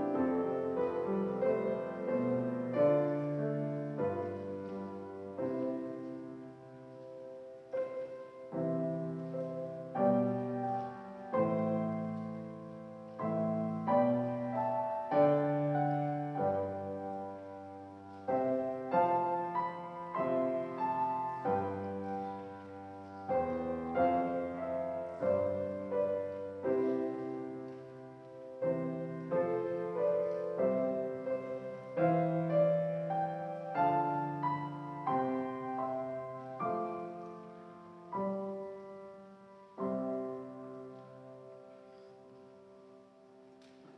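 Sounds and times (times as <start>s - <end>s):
slow piano-like keyboard chords: 0.0s - 43.9s.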